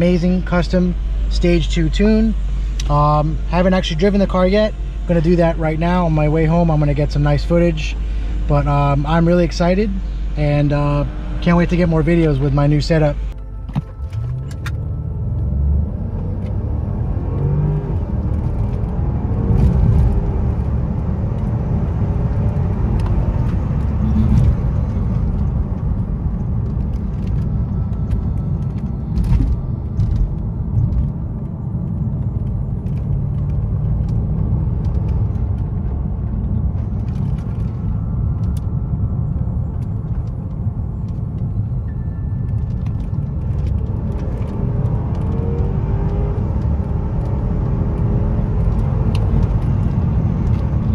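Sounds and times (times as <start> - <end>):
car engine accelerating: 0.0 - 50.9
deep exhaust rumble: 0.0 - 50.9.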